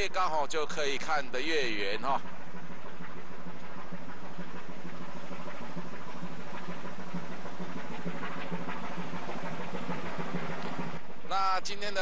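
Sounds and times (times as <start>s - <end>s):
ship engine humming: 0.0s - 12.0s
wind and sea hiss: 0.0s - 12.0s.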